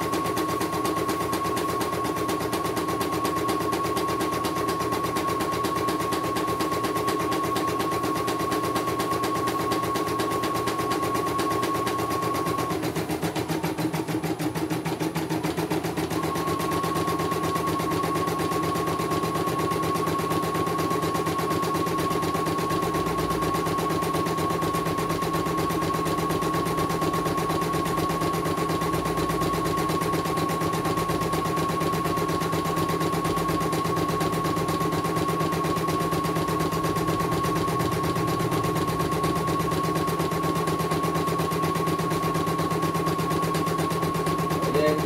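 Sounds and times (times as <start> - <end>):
embroidery machine stitching: 0.0 - 45.0.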